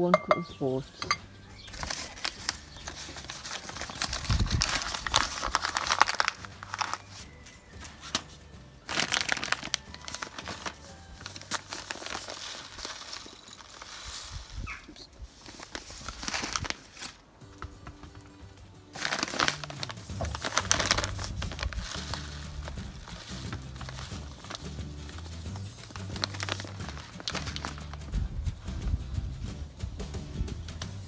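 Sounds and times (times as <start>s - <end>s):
plastic bags crinkling: 1.6s - 28.2s.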